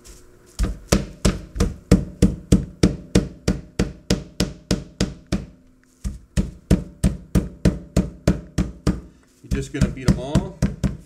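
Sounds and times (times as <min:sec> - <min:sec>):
meat mallet pounding meat: 0:00.6 - 0:11.0.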